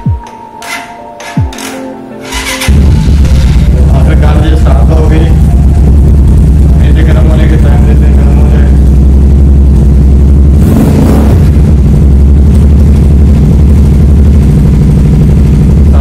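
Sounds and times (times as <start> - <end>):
motorcycle engine idling: 2.3 - 16.0.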